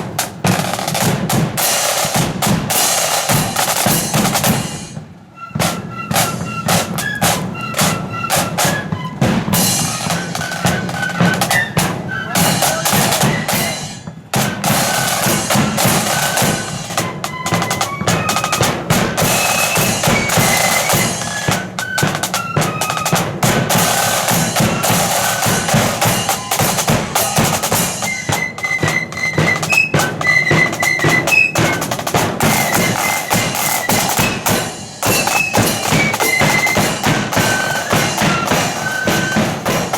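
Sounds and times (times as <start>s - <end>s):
snare drums rattling: 0.0s - 39.9s
flute melody: 2.8s - 39.9s.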